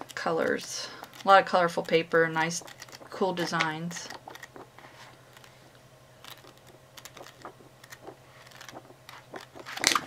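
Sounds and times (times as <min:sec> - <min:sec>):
paper pages flicking: 0:00.0 - 0:05.6, 0:06.2 - 0:10.0
low steady hum: 0:00.0 - 0:10.0.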